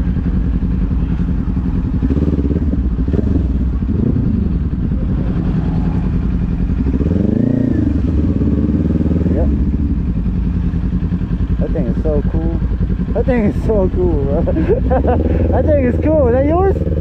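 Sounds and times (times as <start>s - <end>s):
motorcycle engine running at low speed: 0.0s - 17.0s.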